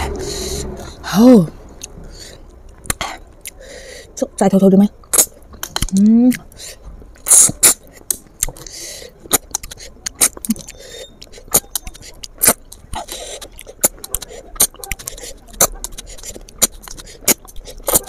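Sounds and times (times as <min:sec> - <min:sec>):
snail shells clicking and smacking: 0:01.7 - 0:03.6, 0:05.0 - 0:18.0.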